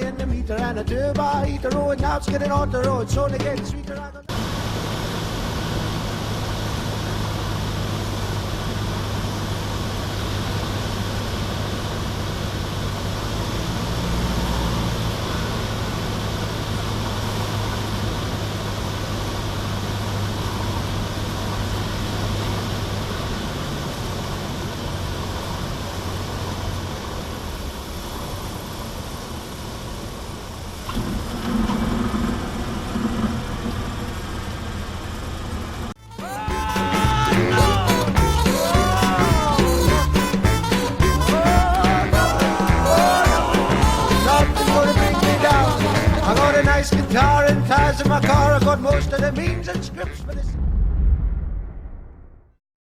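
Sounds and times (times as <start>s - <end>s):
piston engine and propeller drone: 4.3s - 36.1s, 36.8s - 49.0s.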